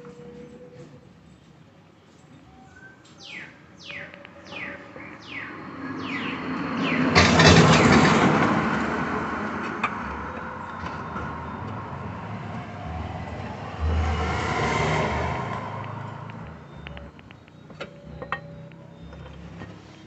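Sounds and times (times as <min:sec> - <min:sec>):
road vehicle passing: 0:03.2 - 0:20.0.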